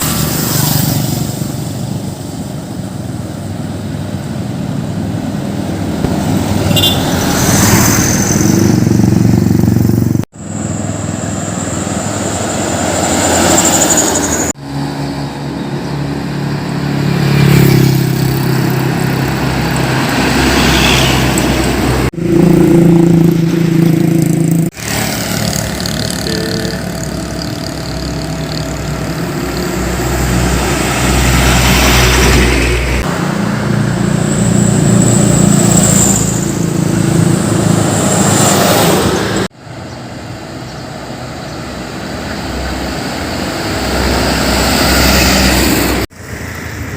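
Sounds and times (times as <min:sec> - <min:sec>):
heavy truck diesel engines: 0:00.0 - 0:46.9.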